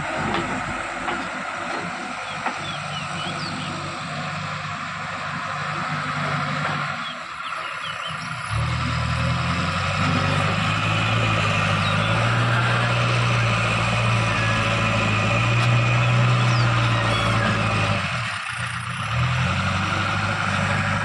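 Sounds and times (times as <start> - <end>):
diesel engine running loud: 0.0 - 21.0.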